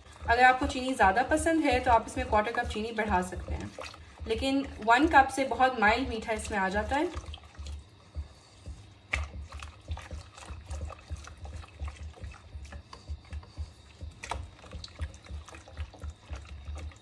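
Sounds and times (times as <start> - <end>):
whisk stirring liquid in saucepan: 0.0 - 17.0.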